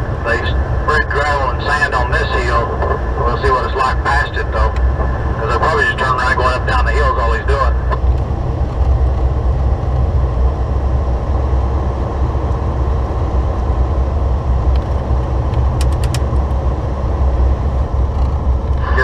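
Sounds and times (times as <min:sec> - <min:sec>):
truck engine and tyre drone: 0:00.0 - 0:19.0.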